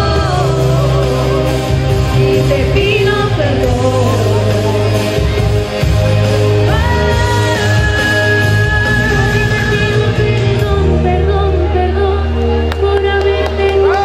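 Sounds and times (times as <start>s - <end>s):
women singing into microphones: 0.0s - 5.3s, 6.4s - 14.0s
amplified backing music: 0.0s - 14.0s.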